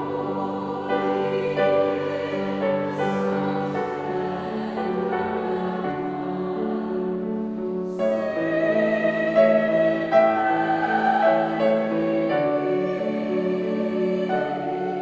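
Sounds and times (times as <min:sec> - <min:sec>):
piano accompaniment: 0:00.0 - 0:15.0
women's choir singing carols: 0:00.0 - 0:15.0.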